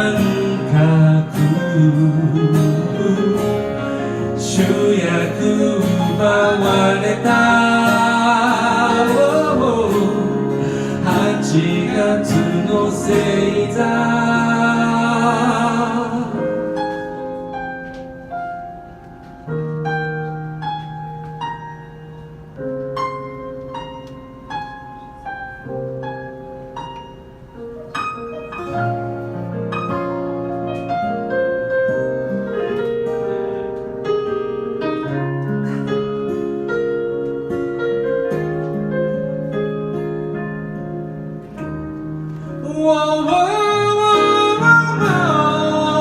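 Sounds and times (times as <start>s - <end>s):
piano notes and chords: 0.0s - 46.0s.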